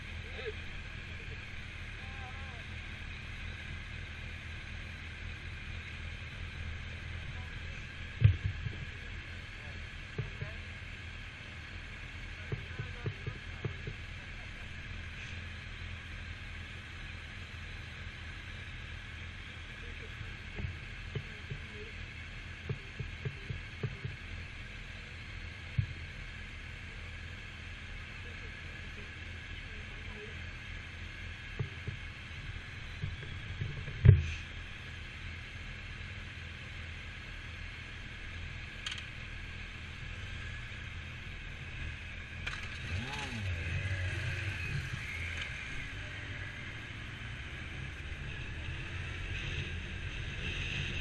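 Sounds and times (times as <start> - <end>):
motorcycle engine idling: 0.0 - 51.0
road noise: 0.0 - 51.0.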